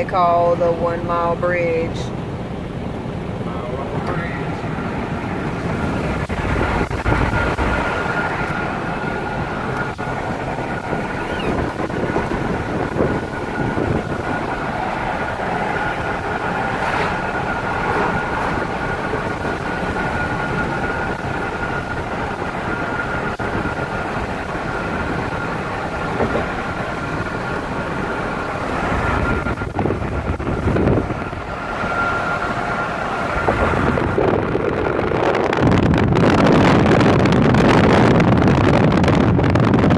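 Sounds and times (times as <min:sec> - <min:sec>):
road and wind noise: 0:00.0 - 0:39.9
thin high whine: 0:03.5 - 0:35.9.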